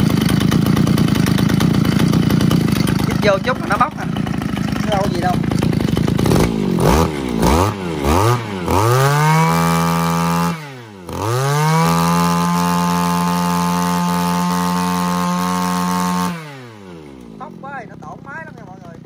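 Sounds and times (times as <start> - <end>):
brush cutter engine revving: 0.0 - 19.0.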